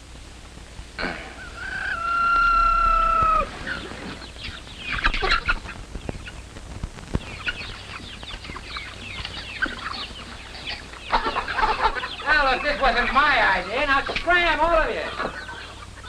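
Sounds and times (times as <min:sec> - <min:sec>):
chickens clucking: 0:01.0 - 0:16.0.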